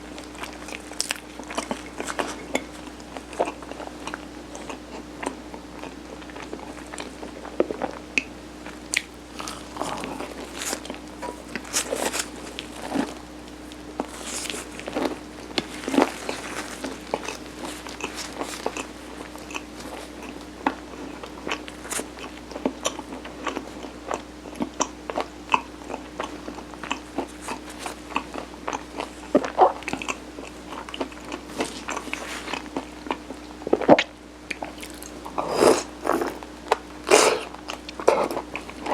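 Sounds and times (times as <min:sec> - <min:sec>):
faint steady hum: 0:00.0 - 0:38.9
sticky chewing: 0:00.1 - 0:38.9.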